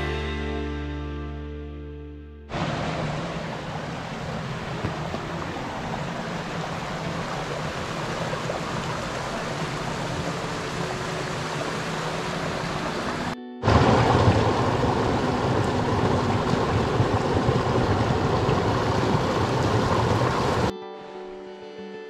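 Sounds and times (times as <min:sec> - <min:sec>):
creek running over rocks: 0:02.5 - 0:20.7.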